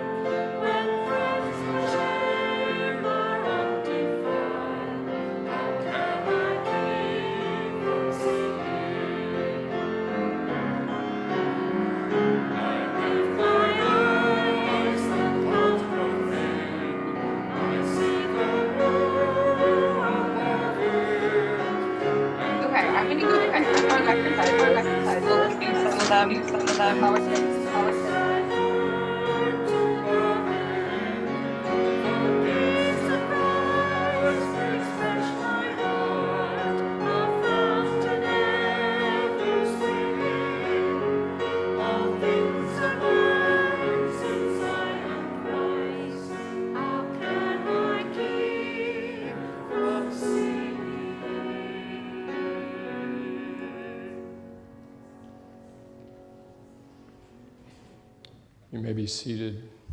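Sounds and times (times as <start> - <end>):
congregation singing a hymn: 0.0 - 58.2
instrumental accompaniment: 0.4 - 58.3.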